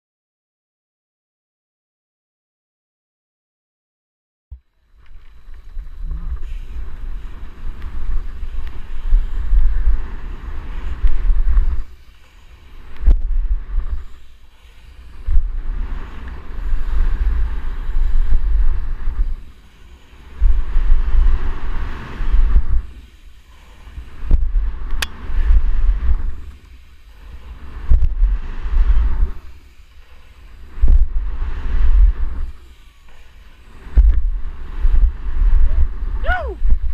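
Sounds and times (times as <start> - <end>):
bike rolling over dirt: 4.8 - 36.1
wind buffeting microphone: 5.0 - 36.9.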